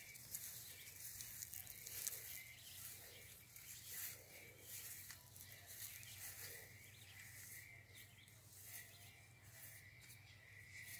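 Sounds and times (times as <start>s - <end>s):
steady high-pitched hum: 0.0s - 10.9s.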